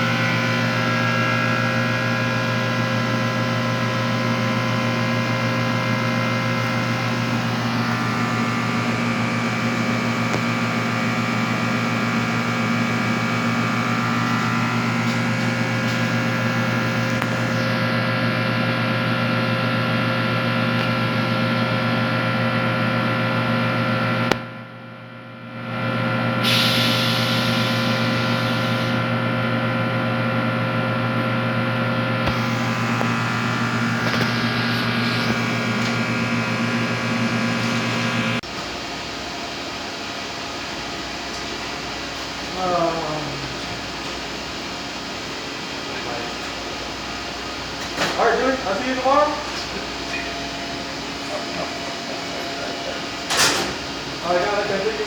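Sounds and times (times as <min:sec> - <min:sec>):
loud machine hum: 0:00.0 - 0:55.0.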